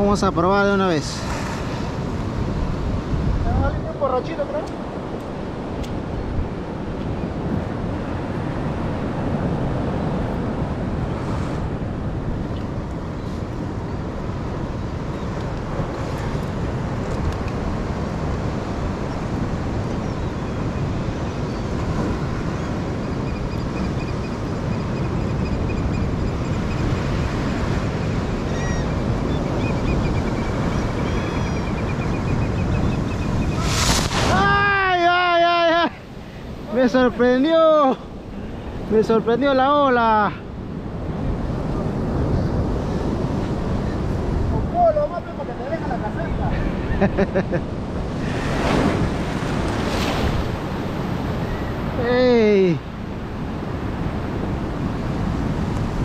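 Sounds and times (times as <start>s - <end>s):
surf washing against rocks: 0.0s - 20.0s, 26.8s - 56.0s
wind buffeting microphone: 0.0s - 52.0s.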